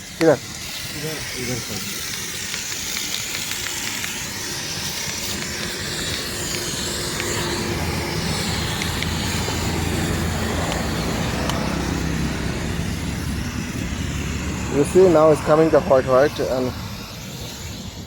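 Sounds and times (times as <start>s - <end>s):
hiss: 0.0s - 18.0s
motor drone: 0.0s - 18.0s.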